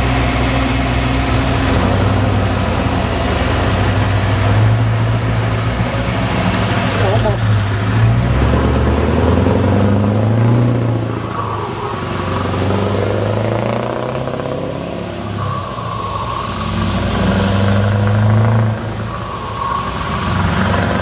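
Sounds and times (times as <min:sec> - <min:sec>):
truck engine running loud: 0:00.0 - 0:21.0.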